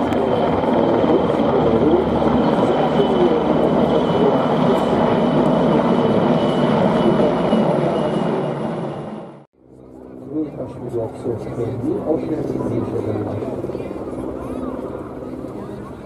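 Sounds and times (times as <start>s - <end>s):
helicopter rotors and turbine engines: 0.0s - 16.0s.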